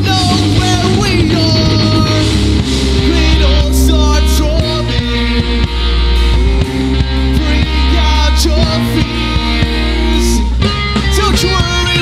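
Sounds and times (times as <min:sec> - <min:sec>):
bass guitar: 0:00.0 - 0:12.0
drums: 0:00.0 - 0:12.0
electric guitars: 0:00.0 - 0:12.0.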